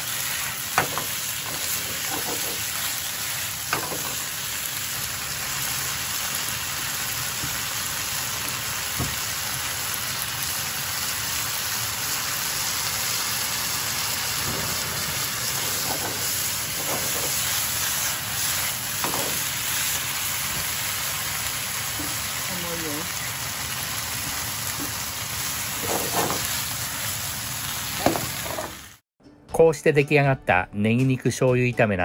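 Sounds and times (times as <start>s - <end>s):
meat sizzling in frying pan: 0.0s - 29.0s.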